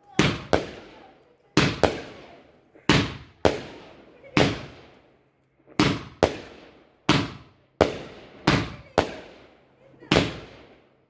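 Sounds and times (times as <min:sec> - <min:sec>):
firework bangs with echo: 0:00.2 - 0:04.9, 0:05.8 - 0:09.4, 0:10.1 - 0:10.8.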